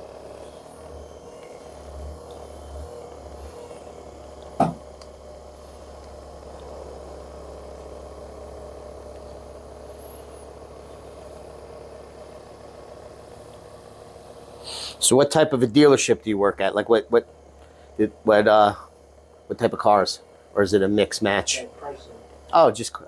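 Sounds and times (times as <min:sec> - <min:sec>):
massage gun motor hum: 0:00.0 - 0:23.0.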